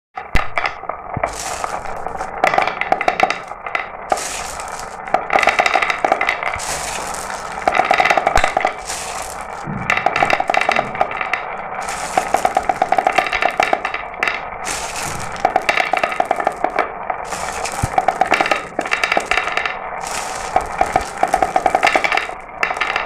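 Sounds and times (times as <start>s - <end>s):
marbles clicking down a track: 0.2s - 23.0s.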